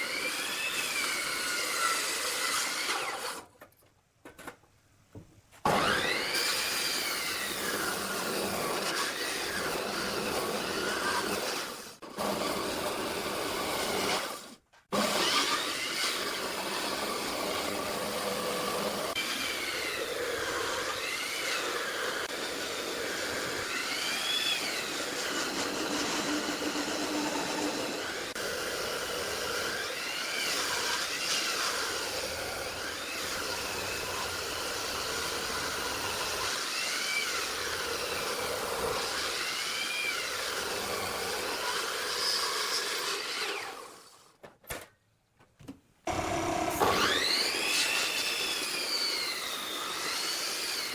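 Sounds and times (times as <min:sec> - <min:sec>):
power tool cutting wood: 0:00.0 - 0:03.5, 0:05.6 - 0:44.3, 0:46.1 - 0:50.9.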